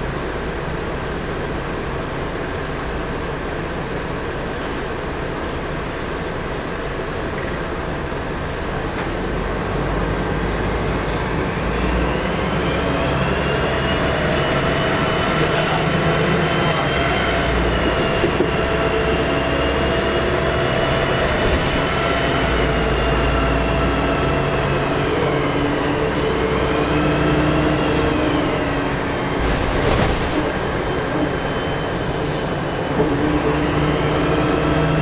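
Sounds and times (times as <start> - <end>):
diesel bus engine running: 0.0 - 35.0.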